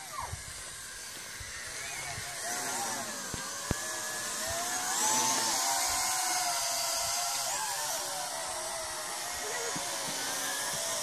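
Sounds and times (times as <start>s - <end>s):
toy drone propellers whining: 0.0s - 11.0s.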